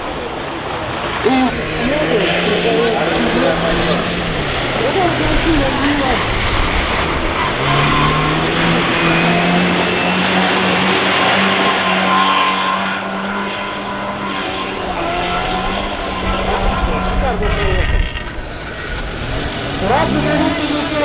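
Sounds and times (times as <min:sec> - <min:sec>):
car engine at high revs: 0:00.0 - 0:21.0
tyres churning mud and water: 0:00.0 - 0:21.0.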